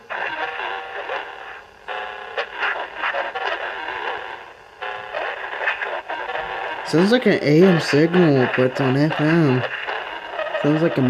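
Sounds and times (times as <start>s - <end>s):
distorted buzzy radio music: 0.0s - 11.0s.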